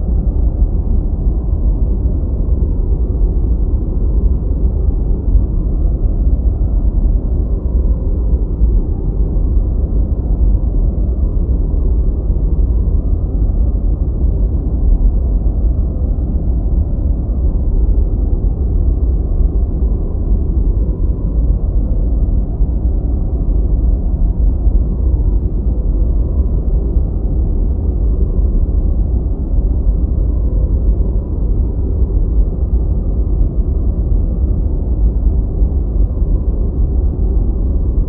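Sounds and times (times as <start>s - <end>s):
deep white noise: 0.0s - 38.0s.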